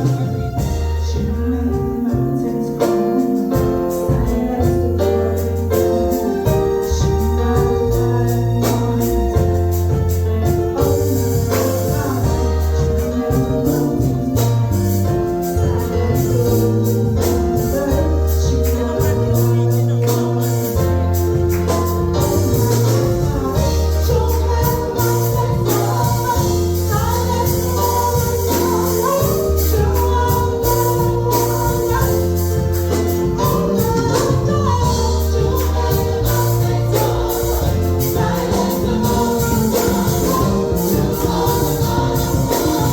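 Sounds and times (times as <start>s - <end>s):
gospel song with choir: 0.0s - 42.9s.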